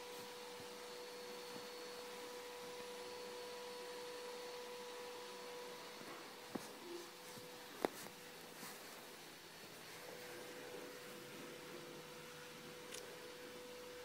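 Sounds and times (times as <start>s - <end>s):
faint steady hum: 0.0s - 14.0s
room hiss: 0.0s - 14.0s.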